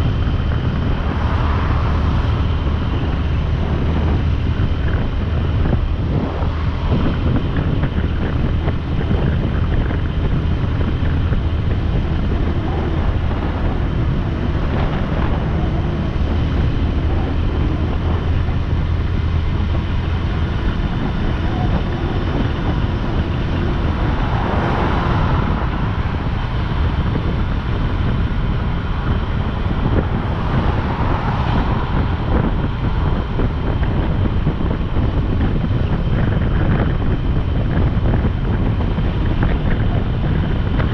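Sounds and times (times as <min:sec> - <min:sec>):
motorcycle engine drone: 0:00.0 - 0:40.9
wind rushing over microphone: 0:00.0 - 0:40.9.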